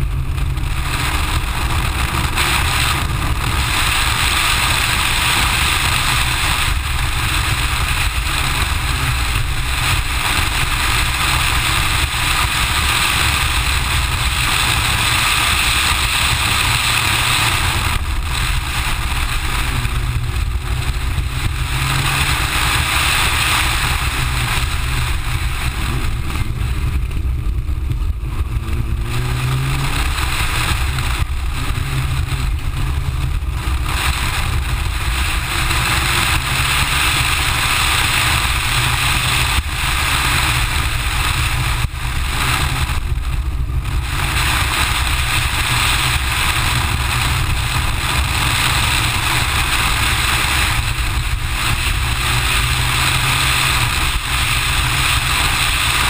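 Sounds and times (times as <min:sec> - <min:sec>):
rally car engine revving: 0:00.0 - 0:56.0
wind rumble on microphone: 0:00.0 - 0:56.0.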